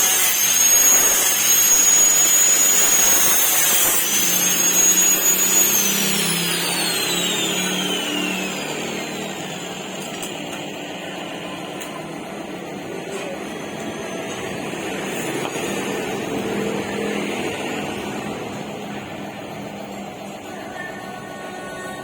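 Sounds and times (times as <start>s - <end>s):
power tool spinning down: 0.0s - 11.7s, 12.8s - 19.1s.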